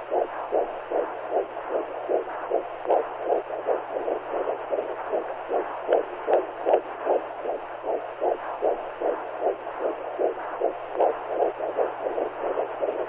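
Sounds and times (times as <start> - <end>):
faint steady low hum: 0.0 - 13.0
rhythmic swishing heartbeat pulse: 0.0 - 13.0.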